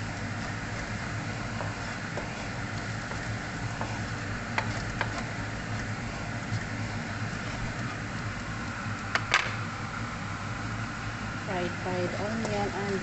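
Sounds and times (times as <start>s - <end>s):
onion and garlic sizzling in oil: 0.0s - 13.0s
steady low hum: 0.0s - 13.0s.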